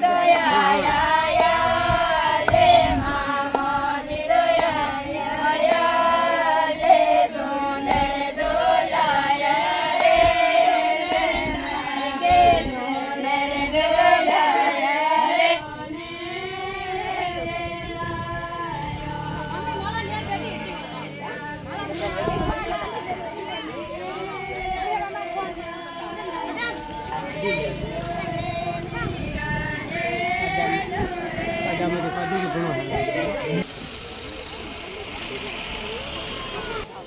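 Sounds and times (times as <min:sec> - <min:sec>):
group of women singing: 0:00.0 - 0:33.7.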